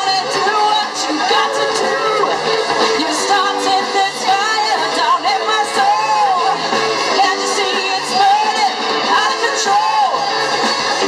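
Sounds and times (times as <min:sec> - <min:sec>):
person singing amplified: 0:00.0 - 0:10.3
live band playing pop song: 0:00.0 - 0:11.0.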